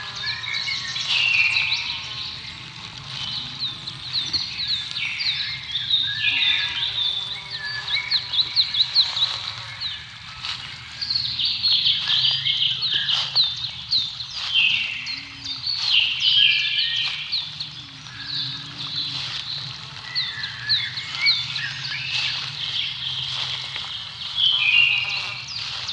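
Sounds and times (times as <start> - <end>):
birds chirping and singing: 0.0 - 25.9.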